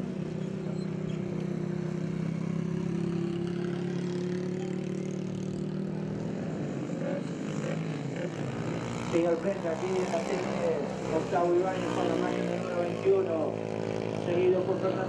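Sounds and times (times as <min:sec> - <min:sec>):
racing engines droning: 0:00.0 - 0:15.0.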